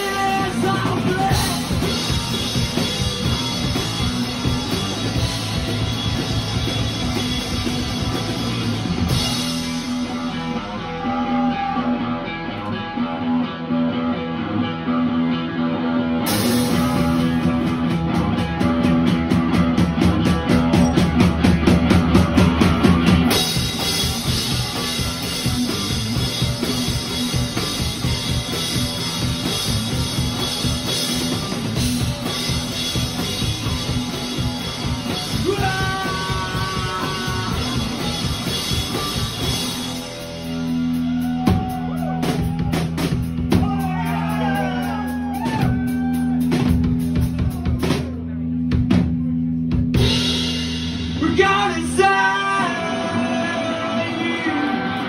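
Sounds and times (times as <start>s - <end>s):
drum kit: 0.0s - 13.4s, 16.1s - 55.0s
bass guitar: 0.0s - 55.0s
electric guitar: 0.0s - 55.0s.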